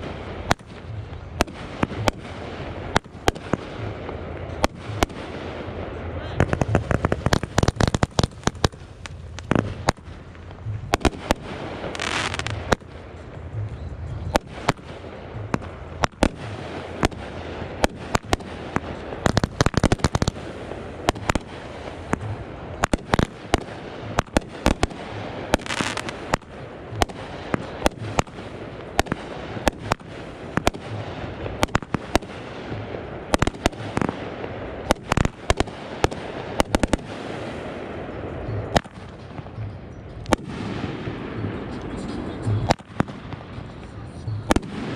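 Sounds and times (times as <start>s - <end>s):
fireworks popping and banging: 0.0s - 44.9s
hissing rush of fireworks: 0.0s - 44.9s.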